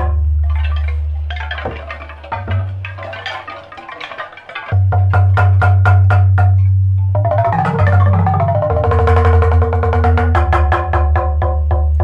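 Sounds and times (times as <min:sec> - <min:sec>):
sustained low bass tone: 0:00.0 - 0:03.0, 0:04.8 - 0:12.0
struck pitched percussion notes: 0:00.0 - 0:12.0.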